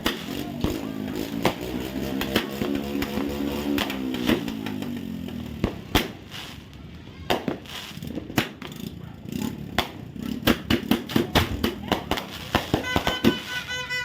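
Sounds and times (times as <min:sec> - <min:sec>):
fireworks and firecrackers banging: 0:00.0 - 0:14.0.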